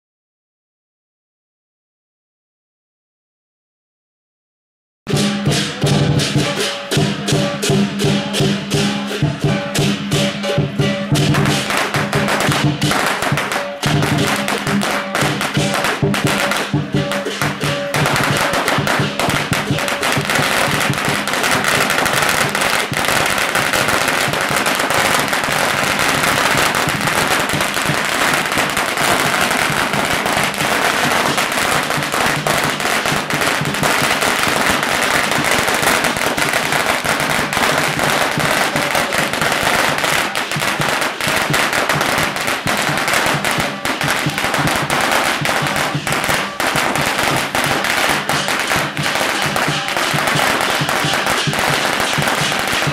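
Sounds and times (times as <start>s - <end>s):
firecrackers crackling: 5.1s - 52.9s.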